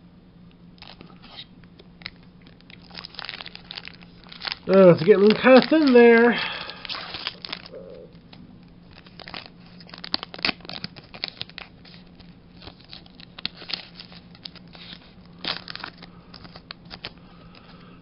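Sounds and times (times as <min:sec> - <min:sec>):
faint steady hum: 0:00.0 - 0:18.0
foil wrapper crinkling and tearing: 0:00.8 - 0:17.9.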